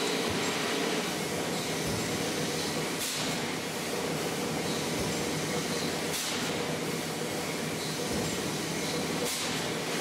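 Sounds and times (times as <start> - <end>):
industrial machine running: 0.0 - 10.0.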